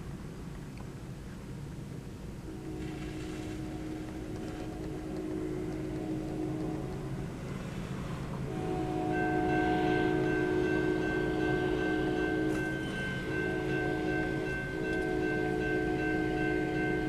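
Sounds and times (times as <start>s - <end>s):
train rumble: 0.0s - 17.0s
locomotive air horn: 2.5s - 17.0s.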